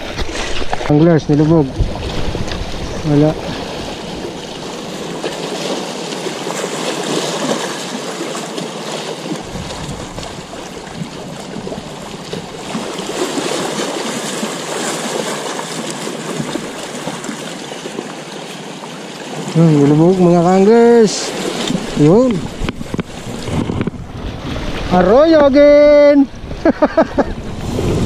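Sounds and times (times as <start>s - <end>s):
small waves lapping on rocks: 0.0s - 28.0s.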